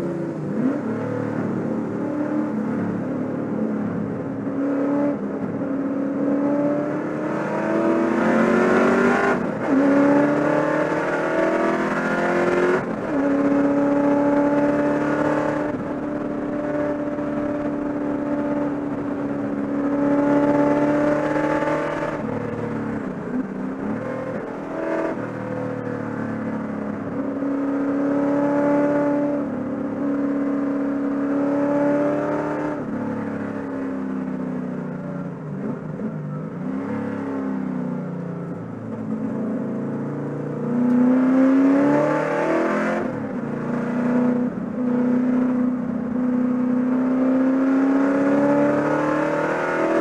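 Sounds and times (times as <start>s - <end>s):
race car engine accelerating: 0.0s - 33.9s, 38.4s - 50.0s.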